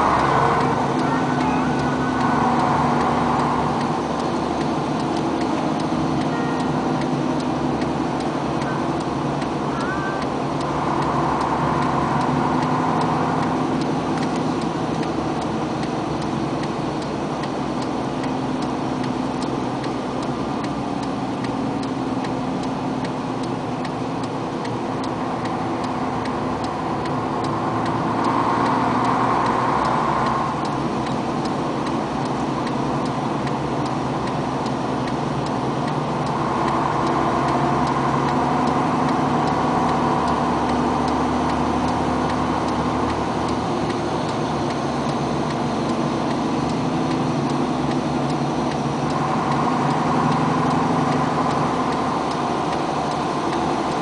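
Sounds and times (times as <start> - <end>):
light ticking: 0.0 - 54.0
vehicle engine and road noise: 0.0 - 54.0.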